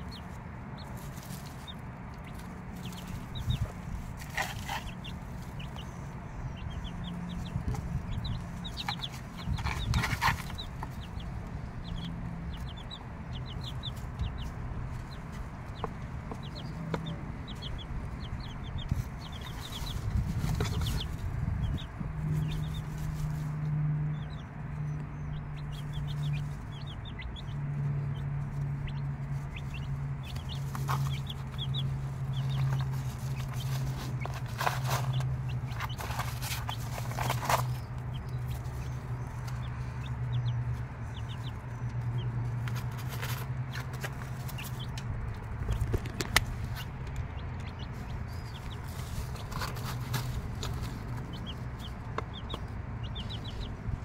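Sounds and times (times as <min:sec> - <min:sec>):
hen clucking: 0:00.0 - 0:23.4, 0:24.2 - 0:54.0
chicks peeping: 0:00.0 - 0:54.0.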